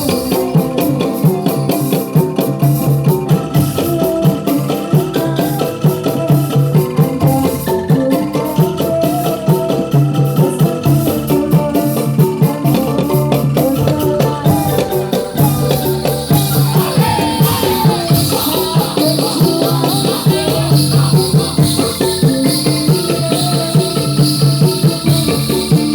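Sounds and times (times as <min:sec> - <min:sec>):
drums: 0:00.0 - 0:25.9
rattling jingling percussion: 0:00.0 - 0:25.9.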